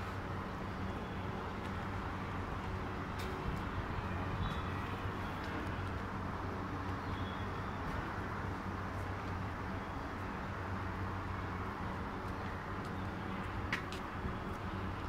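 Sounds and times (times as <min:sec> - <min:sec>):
low street hum: 0:00.0 - 0:15.0.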